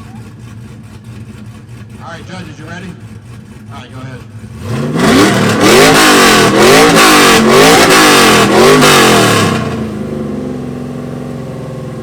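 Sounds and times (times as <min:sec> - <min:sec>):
car exhaust revving: 0:00.0 - 0:12.0.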